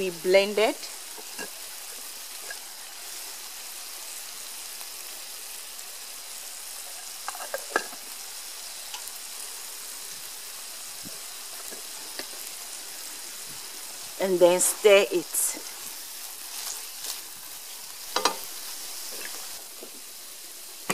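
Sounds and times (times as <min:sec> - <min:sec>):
stew sizzling in a pan: 0:00.0 - 0:20.9.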